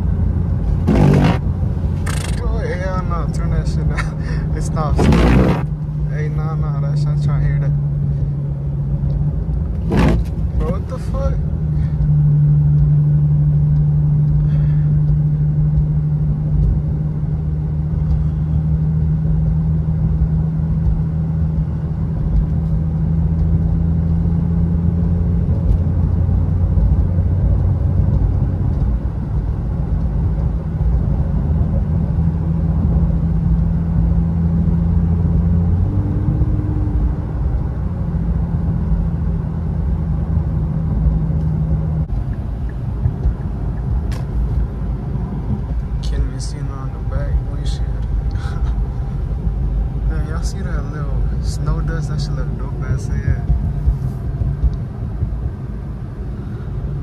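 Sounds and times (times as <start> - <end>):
car cabin engine drone: 0.0 - 57.0
tyres on snowy road: 0.0 - 57.0.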